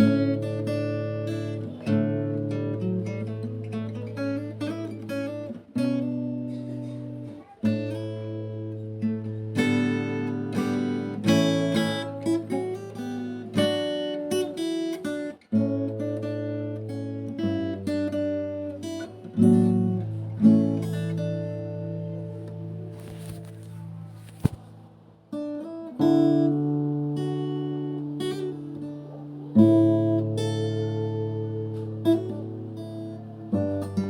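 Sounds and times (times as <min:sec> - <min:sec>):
acoustic guitar plucking and strumming: 0:00.0 - 0:34.0.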